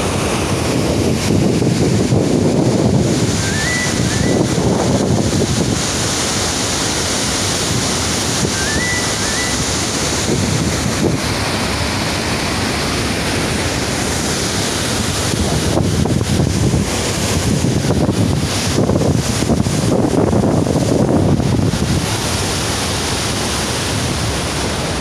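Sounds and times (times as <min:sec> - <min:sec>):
water rushing through dam gates: 0:00.0 - 0:25.0
wind buffeting microphone: 0:00.0 - 0:25.0.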